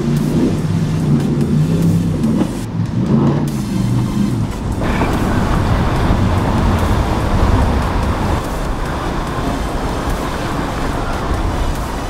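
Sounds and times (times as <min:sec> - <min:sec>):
boat engine: 0:00.0 - 0:12.0
water rushing along hull: 0:00.0 - 0:12.0.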